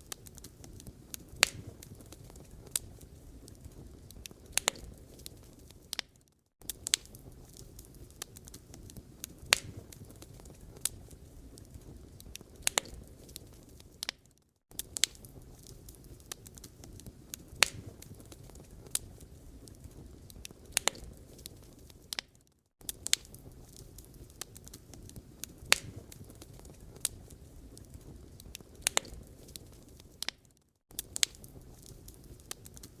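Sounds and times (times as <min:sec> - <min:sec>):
low rumble of burning logs: 0:00.0 - 0:33.0
wood fire crackling: 0:00.0 - 0:33.0.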